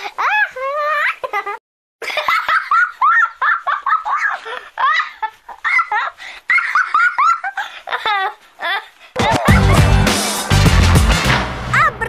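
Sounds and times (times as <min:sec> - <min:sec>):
high-pitched squealing laughter: 0:00.0 - 0:10.1, 0:11.7 - 0:12.0.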